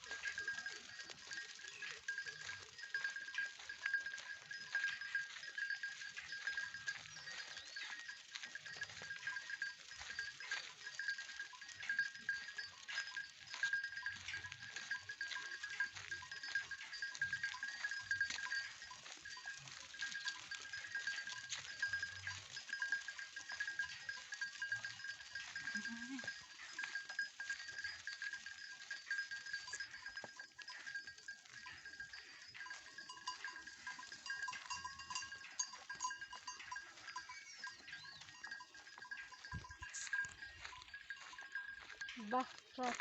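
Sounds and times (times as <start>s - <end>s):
goats rustling through undergrowth: 0.0s - 43.0s.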